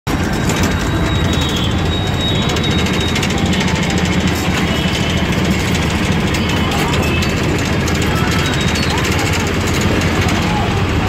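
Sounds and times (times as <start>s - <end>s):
rickshaw engine running: 0.1s - 11.0s.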